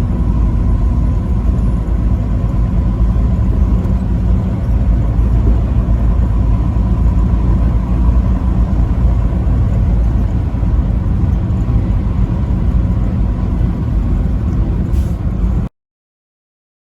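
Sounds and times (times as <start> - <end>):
vehicle engine and tyres rumbling: 0.0 - 15.7.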